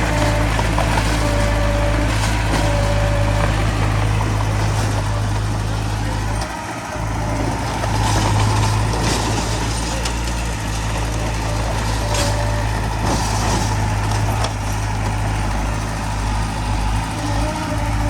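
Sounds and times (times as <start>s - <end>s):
diesel machinery humming: 0.0s - 18.0s.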